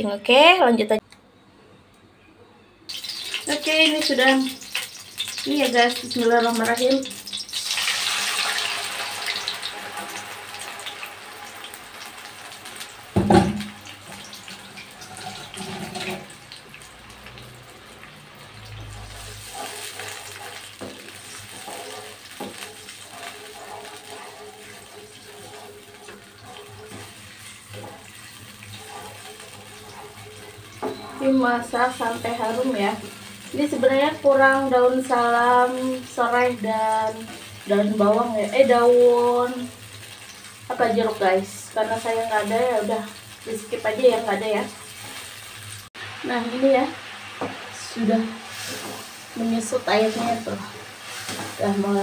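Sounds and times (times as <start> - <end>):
paste sizzling in hot oil: 2.9 - 52.0.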